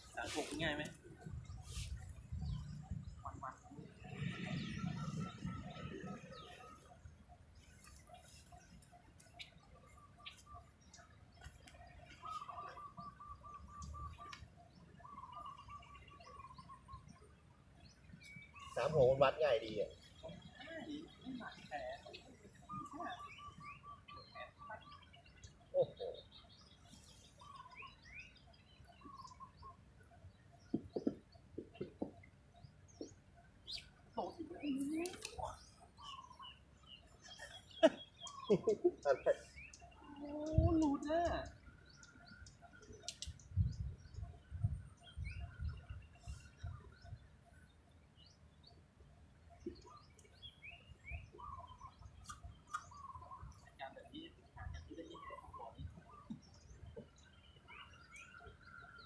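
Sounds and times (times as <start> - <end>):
birds calling and chirping: 0.0 - 59.0.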